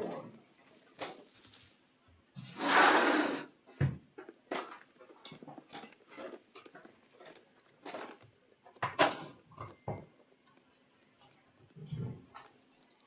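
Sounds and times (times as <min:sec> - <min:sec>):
cardboard and plastic rustling: 0:00.0 - 0:02.7, 0:03.4 - 0:13.0.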